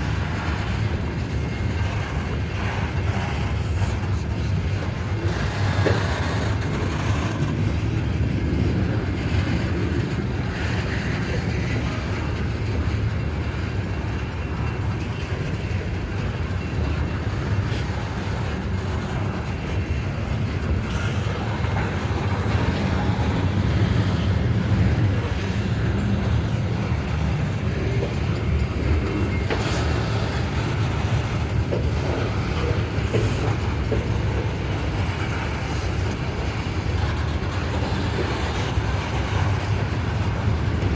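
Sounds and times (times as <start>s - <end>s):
train cars rolling on rails: 0.0s - 40.9s.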